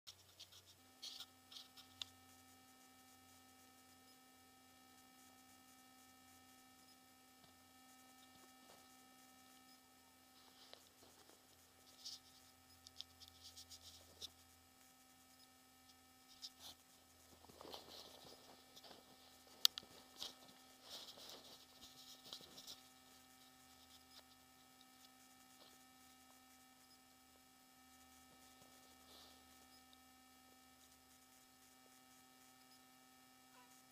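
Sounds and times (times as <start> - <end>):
faint electronic hum: 0.1 - 33.9
faint rustles and clicks: 0.1 - 33.9.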